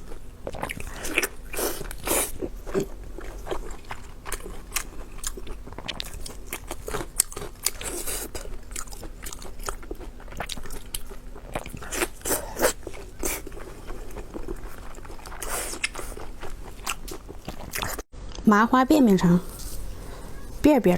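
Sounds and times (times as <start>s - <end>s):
person chewing crunchy food: 0.0s - 18.1s.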